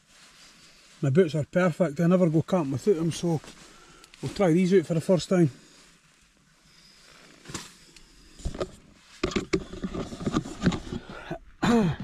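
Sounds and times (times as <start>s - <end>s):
rustling and bumping in a tent: 0.0s - 5.4s, 7.0s - 12.0s.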